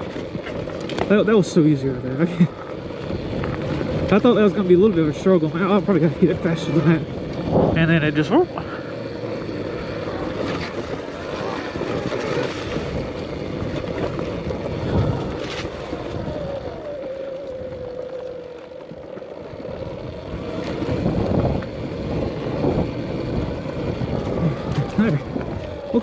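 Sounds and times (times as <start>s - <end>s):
electric motor whine: 0.0s - 26.0s
wind rumbling on microphone: 0.0s - 26.0s.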